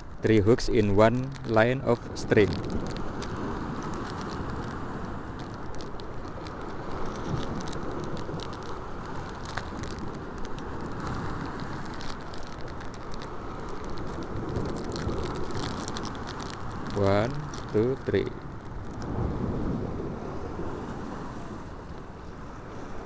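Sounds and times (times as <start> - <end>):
plastic packet crinkling: 0.0 - 19.0.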